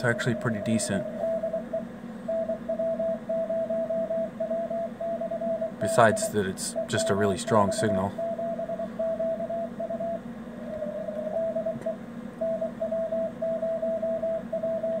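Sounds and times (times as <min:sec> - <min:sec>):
morse code tone: 0:00.0 - 0:10.2, 0:10.9 - 0:15.0
low hum: 0:00.0 - 0:15.0.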